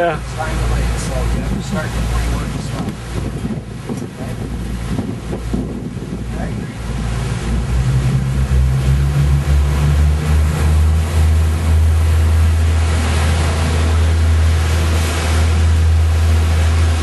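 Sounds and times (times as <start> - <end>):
water washing: 0.0 - 17.0
wind buffeting microphone: 0.0 - 17.0
yacht engine low rumble: 0.0 - 17.0.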